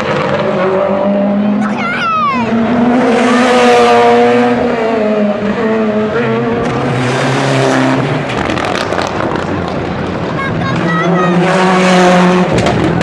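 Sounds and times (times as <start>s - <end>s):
rally cars driving past: 0.0s - 13.0s.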